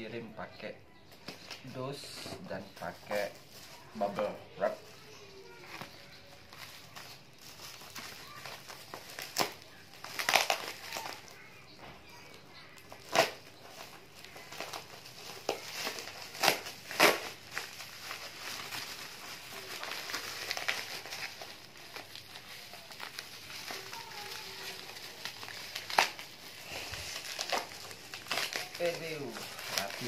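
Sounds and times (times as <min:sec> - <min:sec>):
bubble wrap crinkling: 0:01.0 - 0:30.0
bubble wrap snapping: 0:02.8 - 0:30.0.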